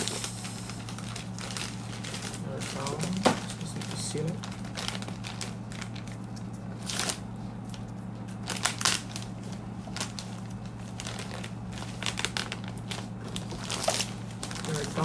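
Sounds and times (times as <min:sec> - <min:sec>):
plastic mailer bag crinkling: 0:00.0 - 0:15.0.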